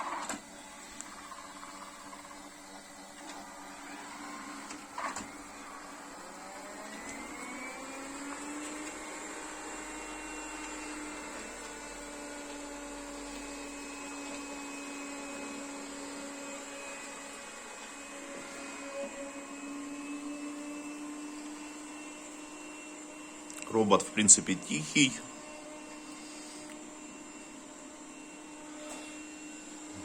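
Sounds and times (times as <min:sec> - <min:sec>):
robot vacuum motor whine: 0:00.0 - 0:30.0.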